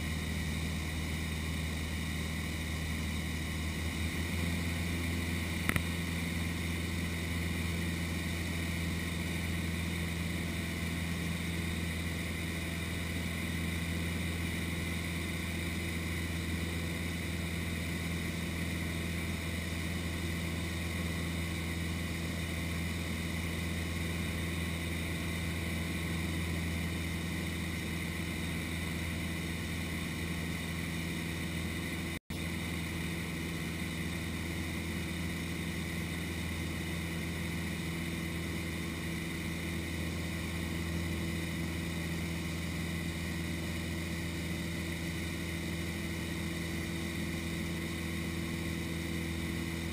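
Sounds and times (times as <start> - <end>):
airplane engine droning: 0.0 - 49.9.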